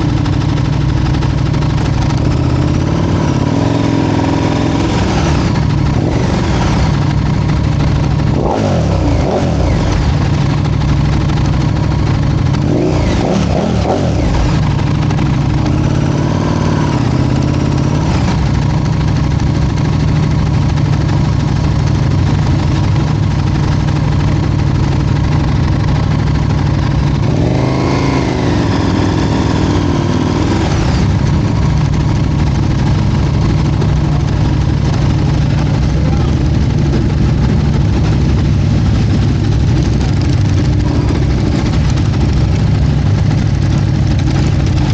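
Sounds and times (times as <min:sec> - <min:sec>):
motorcycle engines idling and revving: 0:00.0 - 0:44.9.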